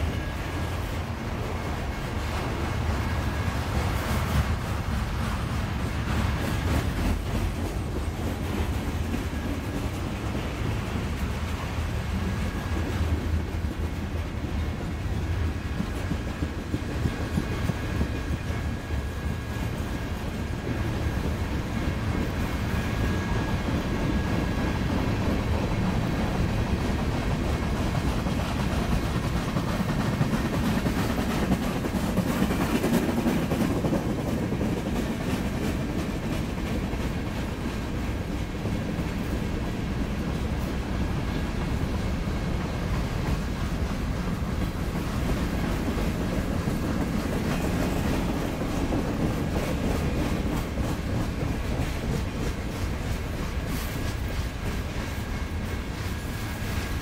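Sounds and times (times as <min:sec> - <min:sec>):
freight train wheels on rail: 0:00.0 - 0:57.0.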